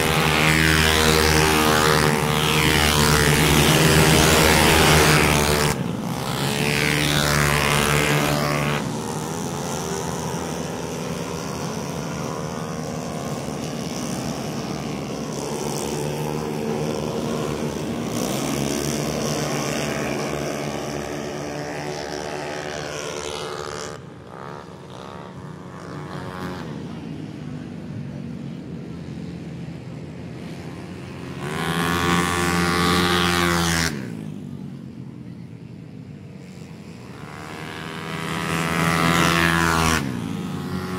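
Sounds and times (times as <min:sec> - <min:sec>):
scooter engines passing at high revs: 0:00.0 - 0:40.9.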